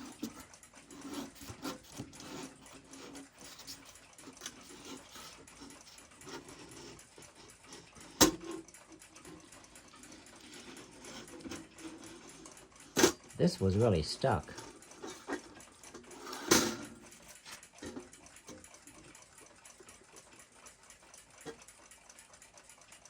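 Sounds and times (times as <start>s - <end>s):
plastic strip scraping clock dial: 0.0s - 23.0s.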